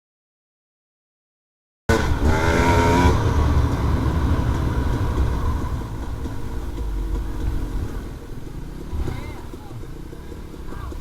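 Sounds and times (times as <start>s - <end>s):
dirt bike engine rumbling: 1.9s - 11.0s.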